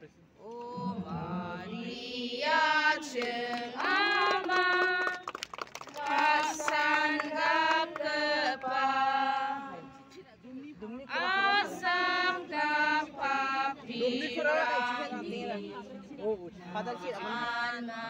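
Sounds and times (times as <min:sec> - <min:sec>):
group singing a hymn: 0:00.5 - 0:10.1, 0:11.1 - 0:16.1, 0:16.7 - 0:18.0.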